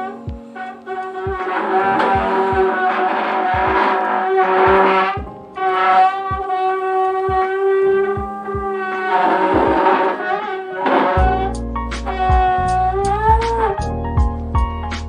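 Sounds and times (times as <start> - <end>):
brass-like melody: 0.0 - 14.0
low drum beat: 0.2 - 5.6, 6.3 - 10.0, 11.2 - 15.0.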